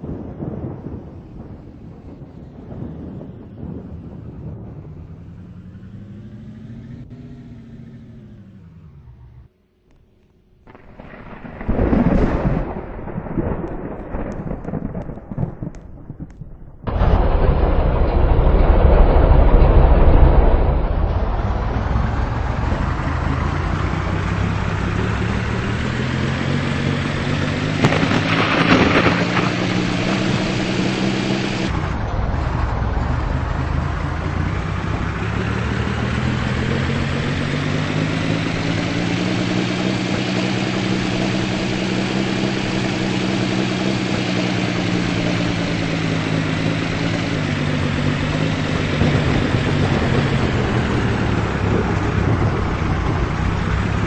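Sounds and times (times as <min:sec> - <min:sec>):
car engine and road noise: 0:00.0 - 0:13.6, 0:16.8 - 0:54.0.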